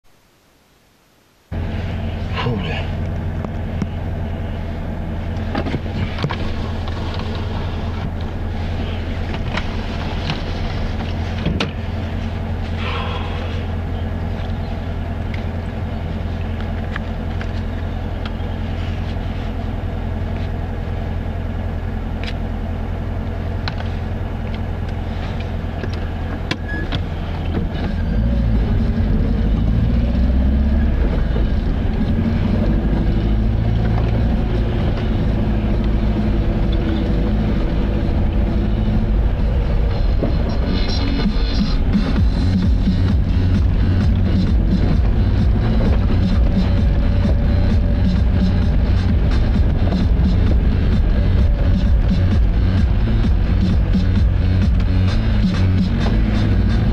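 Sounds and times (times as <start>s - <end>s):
road noise: 0.0s - 56.9s
car engine hum: 0.1s - 56.9s.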